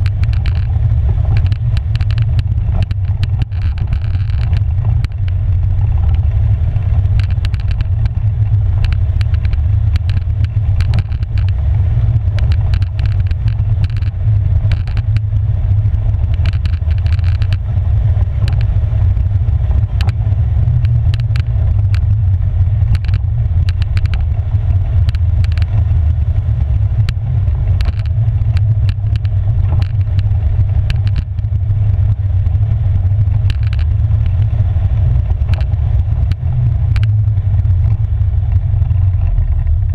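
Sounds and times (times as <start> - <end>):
atv engine rumbling: 0.0 - 39.9
rattles over gravel: 0.0 - 39.9.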